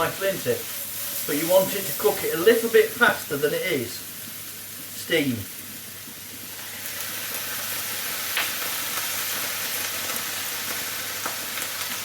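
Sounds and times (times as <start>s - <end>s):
onions and mushrooms sizzling: 0.0s - 12.0s.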